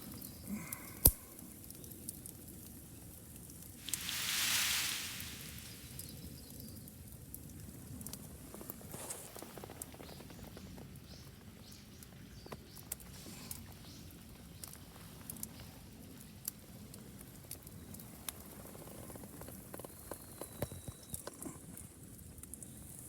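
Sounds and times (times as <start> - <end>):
wood fire crackling: 0.0 - 23.0
fire pops and ticks: 0.1 - 23.0.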